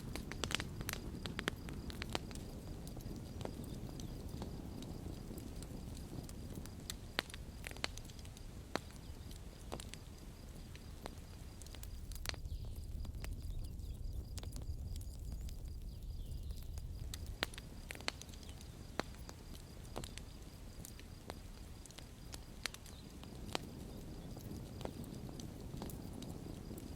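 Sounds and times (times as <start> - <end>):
campfire crackling: 0.0 - 26.9.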